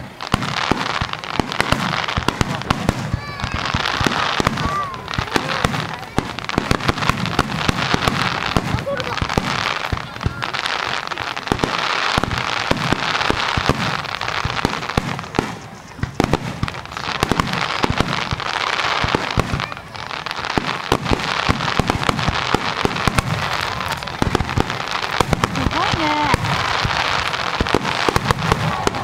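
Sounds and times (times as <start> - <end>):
continuous fireworks hiss: 0.0 - 29.0
fireworks shells bursting: 0.0 - 29.0.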